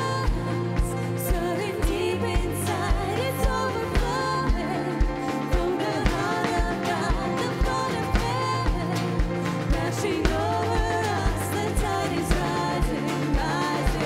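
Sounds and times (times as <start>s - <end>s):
pop worship song singing: 0.0s - 14.0s.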